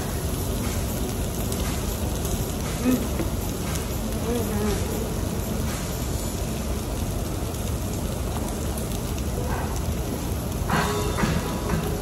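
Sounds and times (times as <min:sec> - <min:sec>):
meat sizzling on grill: 0:00.0 - 0:12.0
ventilation hood rushing: 0:00.0 - 0:12.0.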